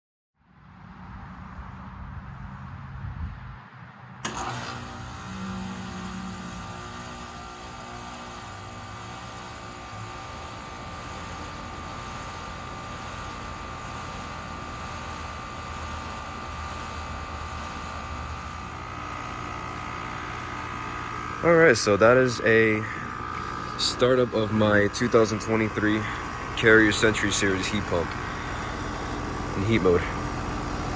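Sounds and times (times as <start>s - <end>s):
heat pump humming: 4.2s - 30.9s
high whine: 4.2s - 30.9s.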